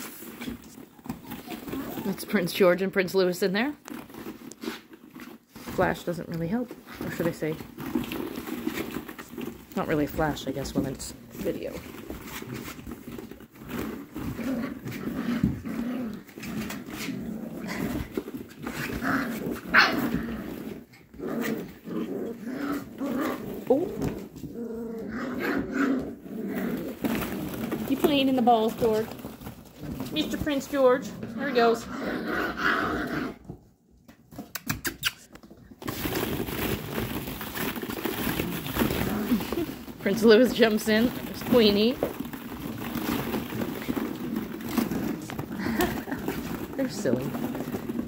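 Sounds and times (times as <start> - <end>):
puppies growling: 0.0 - 2.9, 3.8 - 33.6, 35.9 - 48.0.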